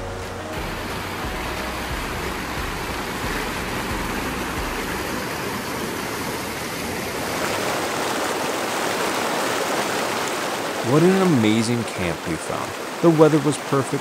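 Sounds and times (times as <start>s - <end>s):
creek rushing over boulders: 0.0s - 14.0s.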